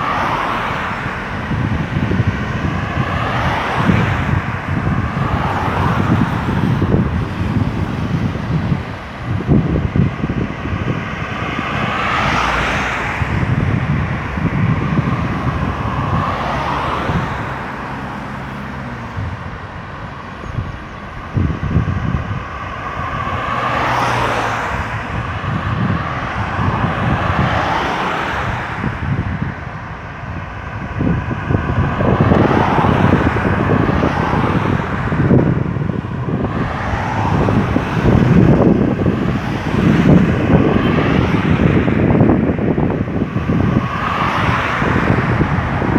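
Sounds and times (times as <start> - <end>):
low engine hum: 0.0 - 45.9
vehicles passing: 0.0 - 45.9.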